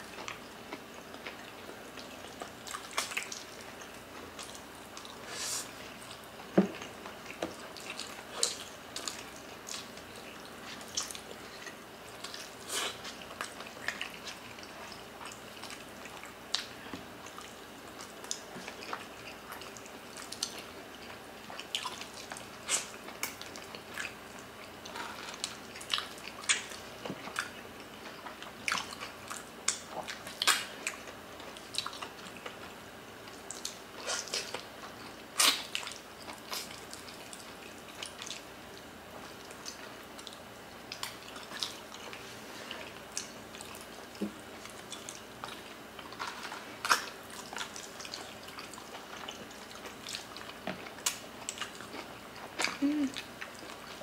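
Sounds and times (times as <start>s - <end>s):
wet chewing and lip smacks: 0.1s - 54.0s.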